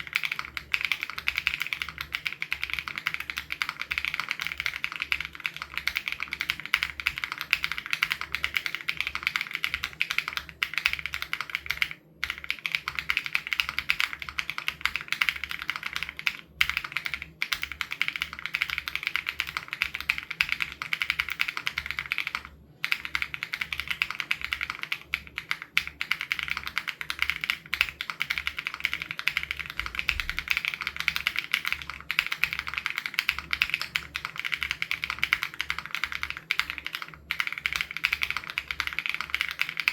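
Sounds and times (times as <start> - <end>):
rapid typing on mechanical keyboard: 0.0 - 39.9.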